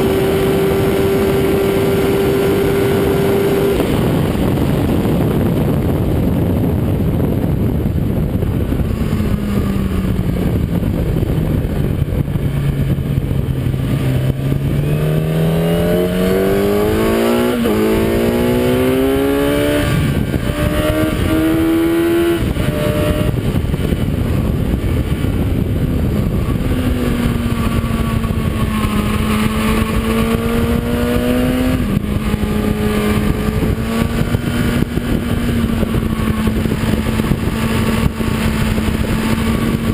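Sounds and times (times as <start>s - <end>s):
motorcycle engine shifting gears: 0.0s - 39.9s
wind rush: 0.0s - 39.9s.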